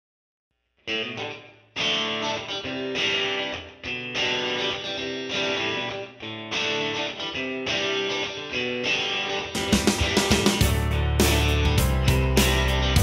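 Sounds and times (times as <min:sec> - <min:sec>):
strummed guitar chords: 0:00.9 - 0:13.0.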